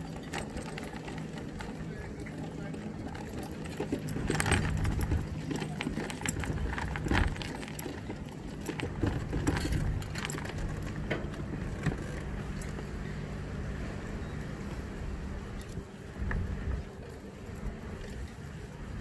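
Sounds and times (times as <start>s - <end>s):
scooter motor hum: 0.0s - 19.0s
wheels clattering over wooden boards: 0.0s - 19.0s.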